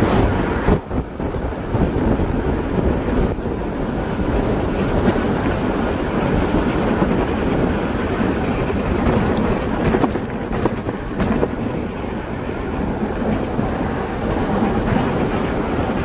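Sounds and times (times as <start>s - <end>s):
tyres rushing on asphalt: 0.0s - 16.0s
wind buffeting microphone: 0.0s - 16.0s.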